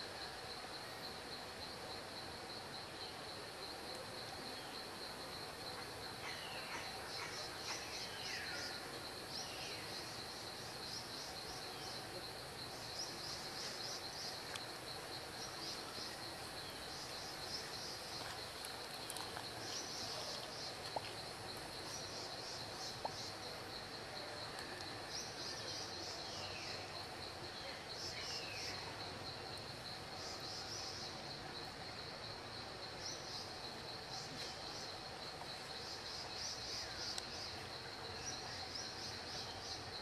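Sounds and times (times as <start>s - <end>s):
insect chorus with pulsing trill: 0.0s - 40.0s
outdoor background hiss: 0.0s - 40.0s.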